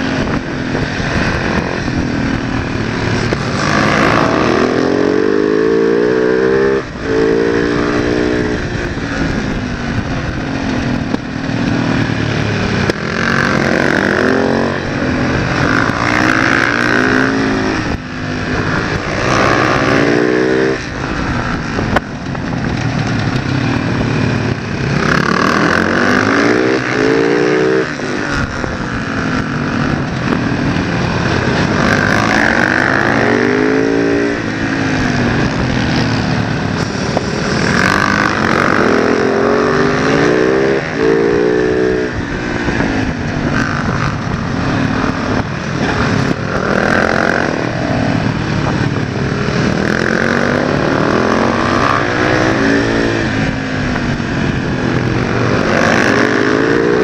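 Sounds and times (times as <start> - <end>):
motorcycle engine revving: 0.0 - 57.0
steady rushing noise: 0.0 - 57.0.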